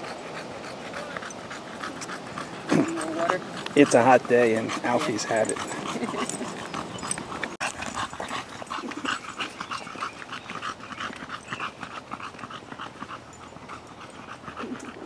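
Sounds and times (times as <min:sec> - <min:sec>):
dog panting fast: 0:00.0 - 0:15.0.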